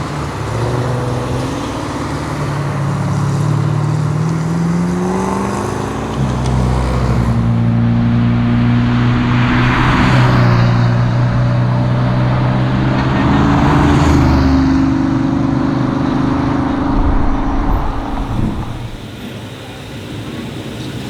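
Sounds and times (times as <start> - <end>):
rushing noise: 0.0 - 20.3
car engine running: 0.0 - 21.0.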